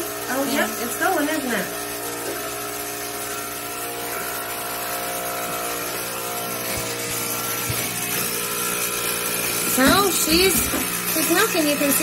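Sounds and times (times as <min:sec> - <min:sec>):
milking machine motor hum: 0:00.0 - 0:12.0
vacuum pump hiss: 0:00.0 - 0:12.0.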